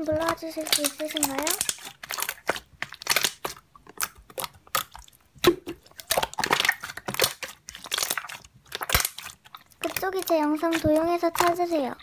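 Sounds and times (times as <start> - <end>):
slime squished by hand: 0.0 - 12.0.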